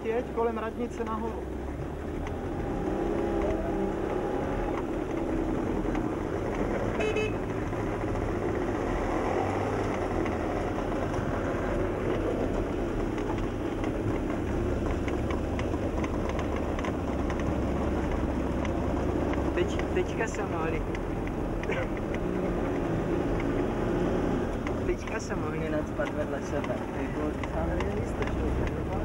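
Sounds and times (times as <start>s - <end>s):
two-stroke engines running: 0.0s - 29.0s.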